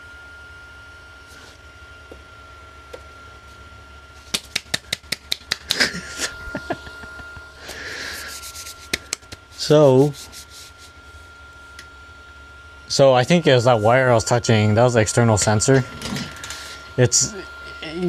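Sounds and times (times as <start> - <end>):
short wavering buzz: 2.4 - 18.0.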